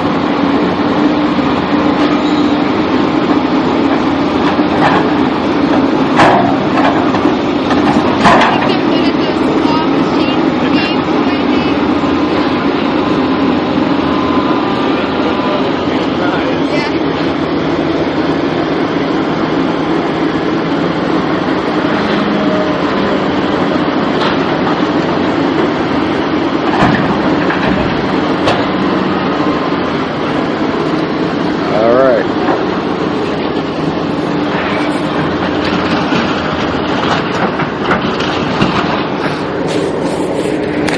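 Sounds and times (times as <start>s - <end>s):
moving vehicle rumble: 0.0s - 40.9s.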